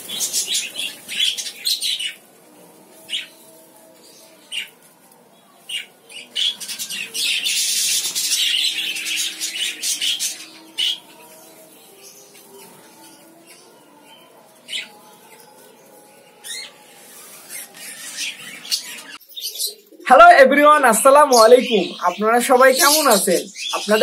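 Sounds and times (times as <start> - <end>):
small birds chirping and chattering: 0.0 - 24.0.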